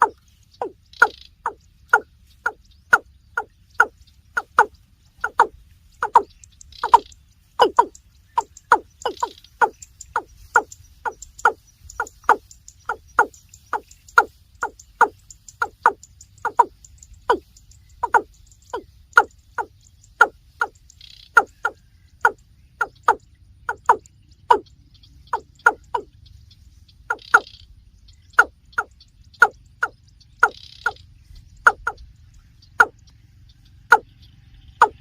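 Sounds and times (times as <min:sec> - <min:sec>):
bird calling: 0:00.0 - 0:35.0.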